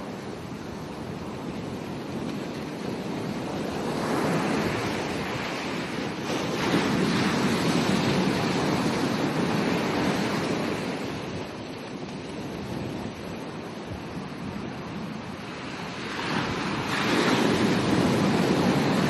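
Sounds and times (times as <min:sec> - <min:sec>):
ocean waves breaking on beach: 0:00.0 - 0:19.0
wind on microphone: 0:00.0 - 0:19.0.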